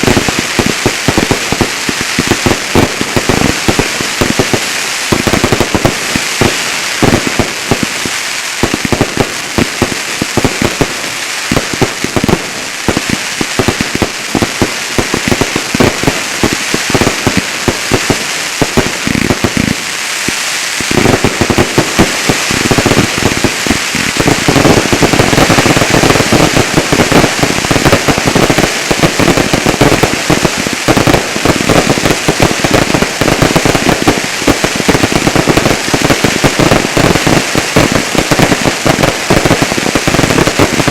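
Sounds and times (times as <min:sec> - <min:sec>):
crackling hiss: 0:00.0 - 0:40.9
fireworks bangs: 0:00.0 - 0:40.9.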